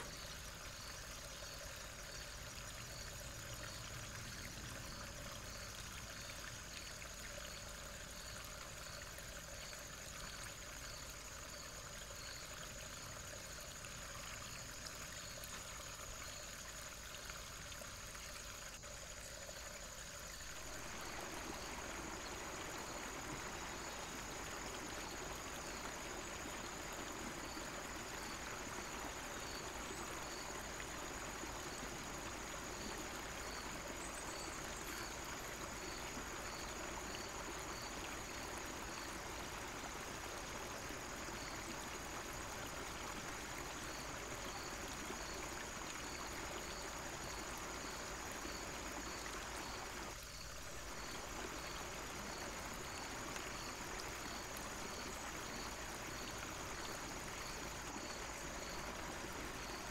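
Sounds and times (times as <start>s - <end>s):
stream trickling over cascade: 0.0s - 59.9s.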